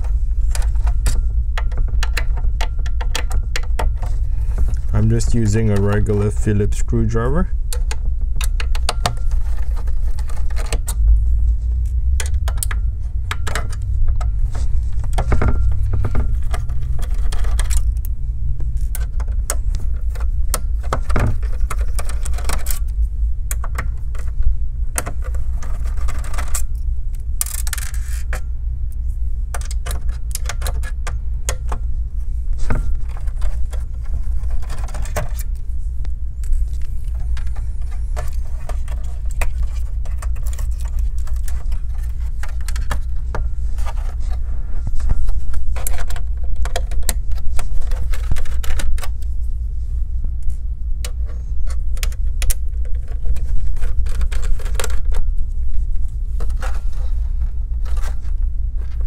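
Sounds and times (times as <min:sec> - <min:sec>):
hands clicking and scraping parts: 0:00.0 - 0:59.0
steady low hum: 0:00.0 - 0:59.0.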